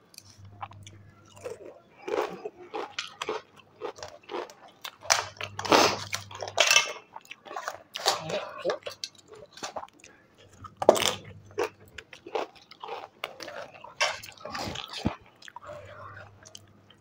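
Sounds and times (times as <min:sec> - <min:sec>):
chewing crunchy chips: 0:00.1 - 0:17.0.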